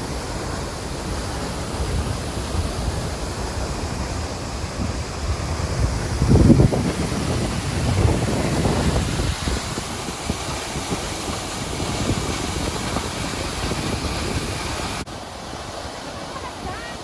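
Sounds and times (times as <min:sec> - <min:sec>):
waterfall roaring: 0:00.0 - 0:17.0
wind buffeting the microphone: 0:00.0 - 0:17.0.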